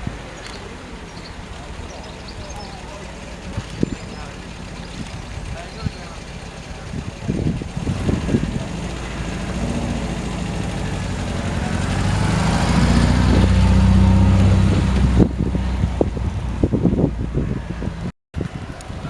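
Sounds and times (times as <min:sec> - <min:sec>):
car engine at low revs: 0:00.6 - 0:18.1.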